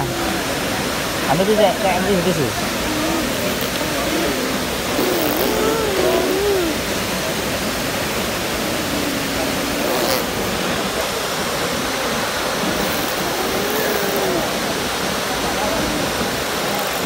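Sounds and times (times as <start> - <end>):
faint voices: 0.0 - 17.0
waterfall rushing: 0.0 - 17.0.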